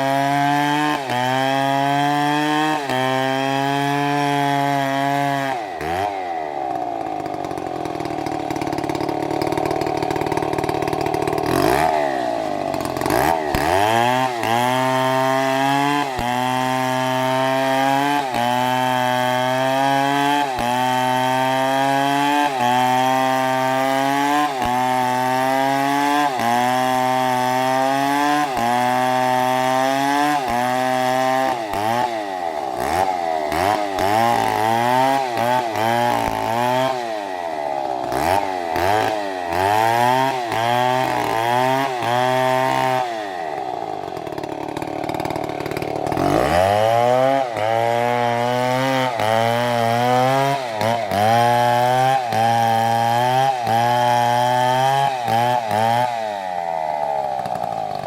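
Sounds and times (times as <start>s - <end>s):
chainsaw cutting under load: 0.0s - 58.0s.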